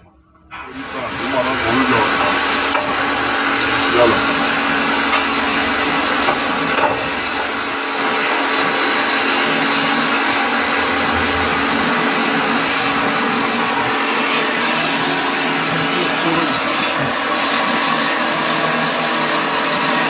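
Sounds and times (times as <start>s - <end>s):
metal lathe humming: 0.0s - 20.0s.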